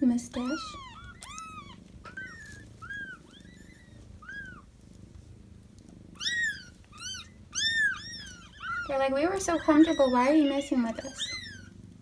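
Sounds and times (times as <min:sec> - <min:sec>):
cat purring: 0:00.2 - 0:12.0
kittens mewing: 0:00.3 - 0:04.8, 0:06.1 - 0:12.0.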